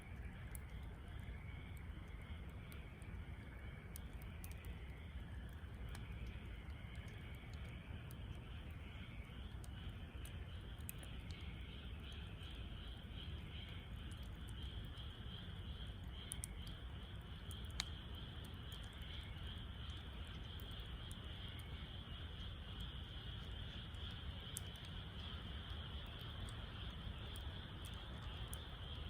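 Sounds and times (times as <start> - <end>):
wood fire crackling and popping: 0.0 - 29.0
insects chirring: 0.1 - 29.0.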